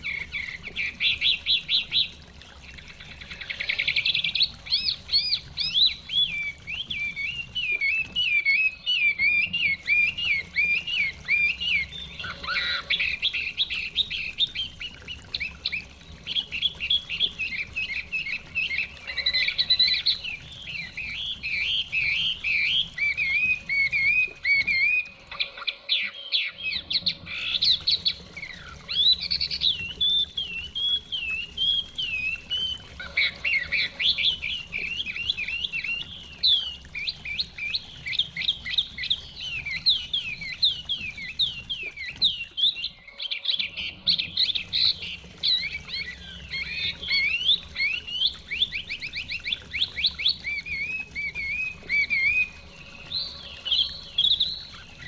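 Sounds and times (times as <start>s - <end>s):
stream water rushing: 0.0s - 55.0s
bird singing whistled trills: 4.4s - 55.0s.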